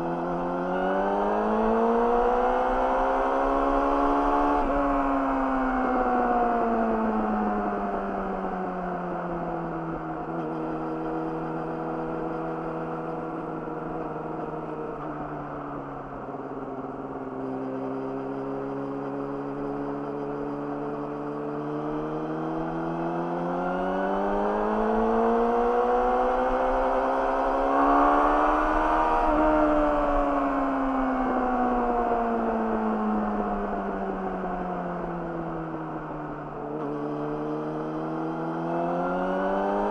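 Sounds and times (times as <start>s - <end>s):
motorcycle engine revving: 0.0s - 8.5s, 9.4s - 39.9s.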